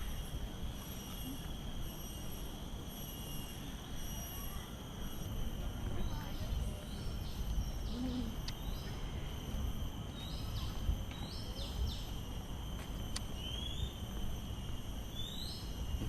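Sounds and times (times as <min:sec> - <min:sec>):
high-pitched insect drone: 0:00.0 - 0:16.0
low outdoor rumble: 0:00.0 - 0:16.0.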